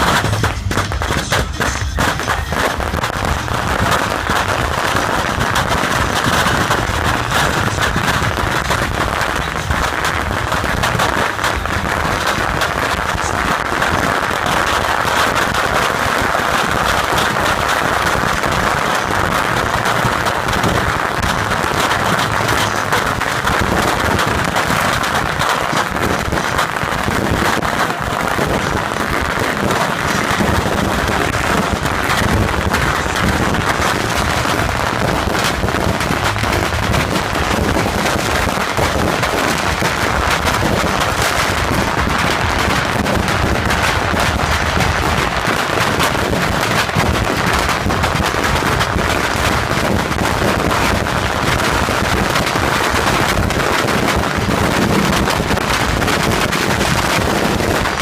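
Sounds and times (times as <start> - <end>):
firecrackers crackling: 0.0 - 58.0
rockets whooshing: 0.0 - 58.0.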